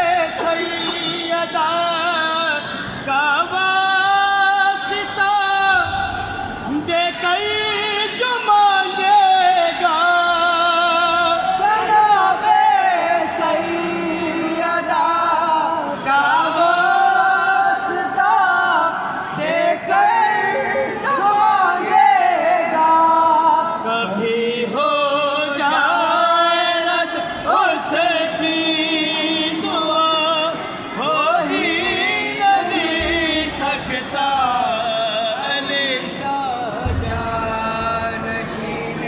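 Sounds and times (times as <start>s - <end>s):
men singing unaccompanied: 0.0s - 39.0s.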